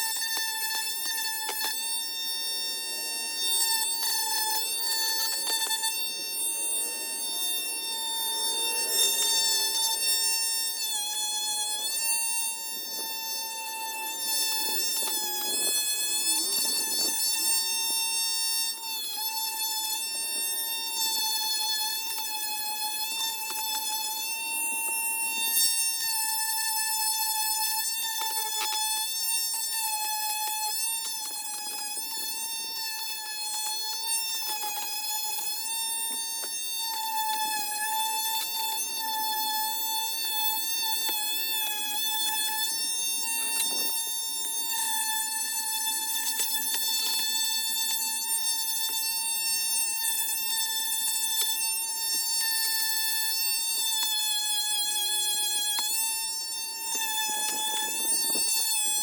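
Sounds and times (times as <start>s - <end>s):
power tool whining: 0.0s - 59.0s.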